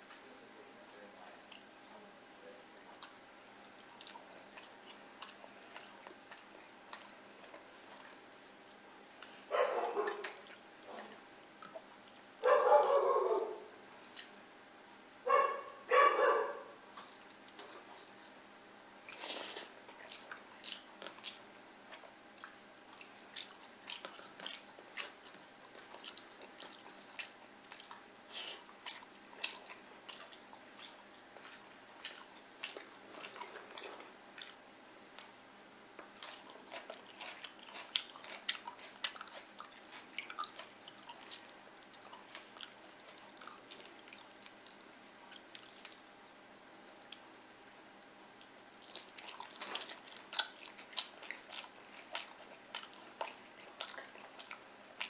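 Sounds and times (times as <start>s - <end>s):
chewing and wet mouth clicks: 0.7s - 1.7s, 2.8s - 7.7s, 8.3s - 13.1s, 13.7s - 14.4s, 17.0s - 34.6s, 36.0s - 55.0s.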